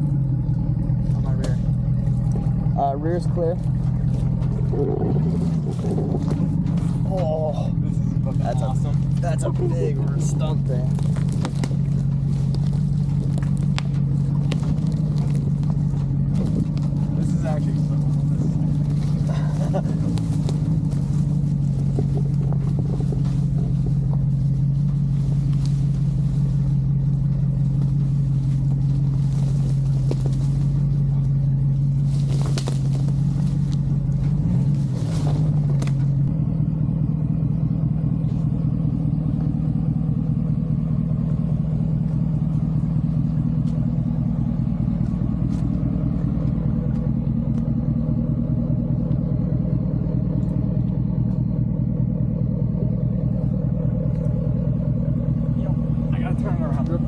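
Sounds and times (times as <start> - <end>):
pickup engine and drivetrain rumble: 0.0 - 57.0.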